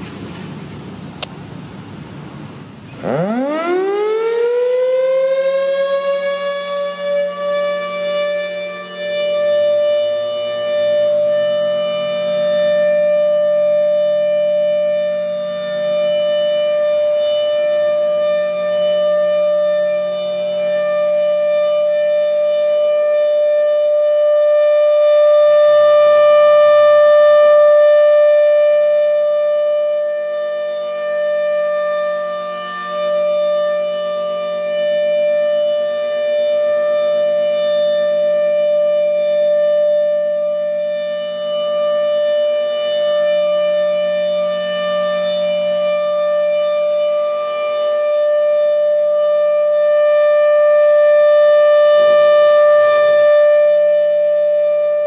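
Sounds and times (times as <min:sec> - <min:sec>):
rotating horn siren steady tone: 0:00.0 - 0:55.0.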